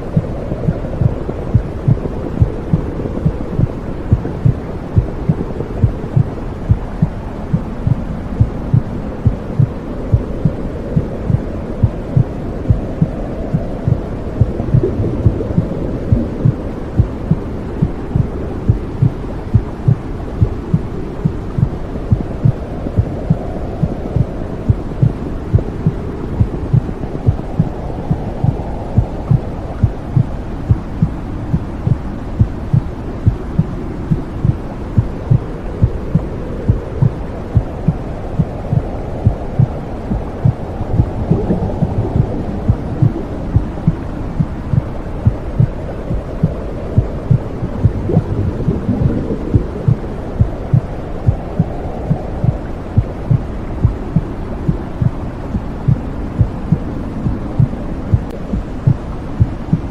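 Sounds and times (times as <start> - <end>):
low whooshing hum: 0.0 - 59.9
steady heartbeat: 0.0 - 59.9.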